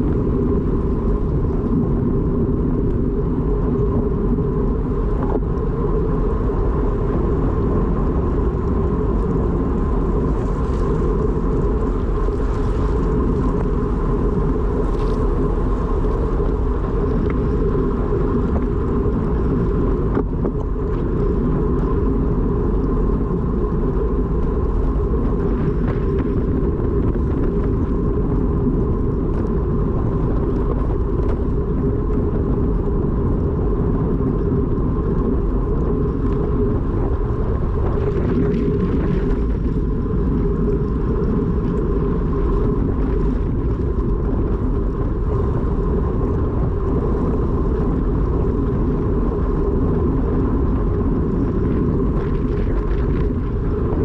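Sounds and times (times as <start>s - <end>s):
constant hum: 0.0s - 54.0s
road noise: 0.0s - 54.0s
wind rush: 0.0s - 54.0s.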